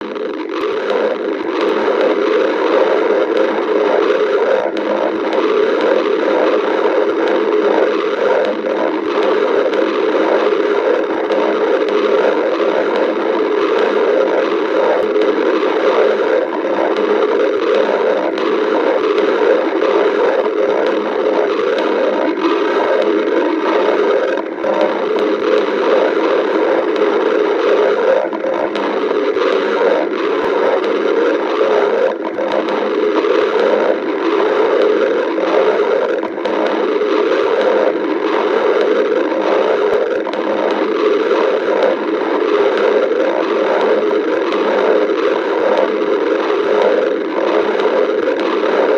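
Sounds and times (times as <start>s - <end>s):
faint clicks: 0.0s - 48.9s
stomach growling: 0.0s - 48.9s.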